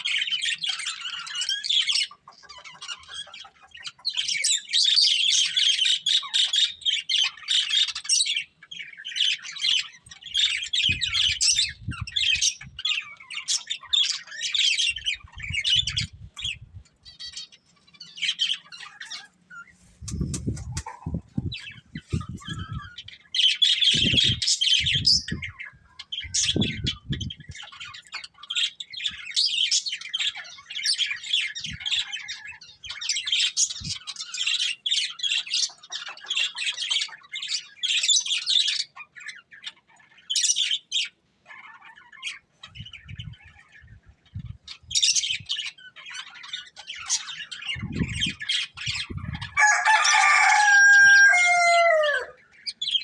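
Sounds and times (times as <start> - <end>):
budgerigars chirping: 0.0 - 53.0.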